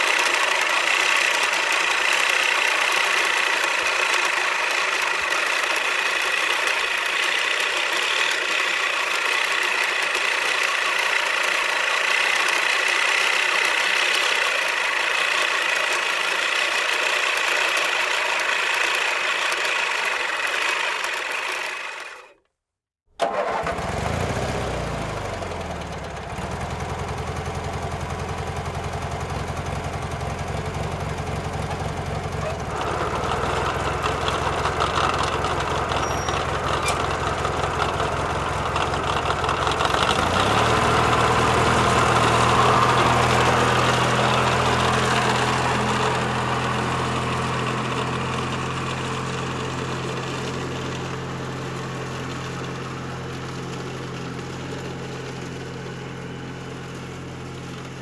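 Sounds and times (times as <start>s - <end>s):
lawnmower engine buzzing: 0.0s - 22.4s, 23.2s - 58.0s
lawnmower engine running low: 0.0s - 22.4s, 23.2s - 58.0s.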